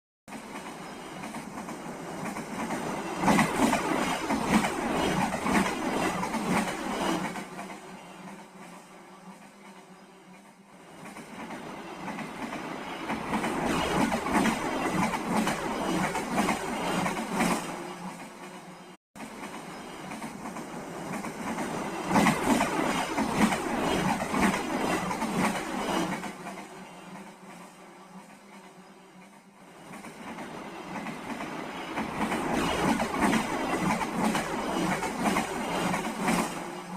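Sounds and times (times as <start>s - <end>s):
train wheels clacking over rail joints: 0.3s - 36.9s.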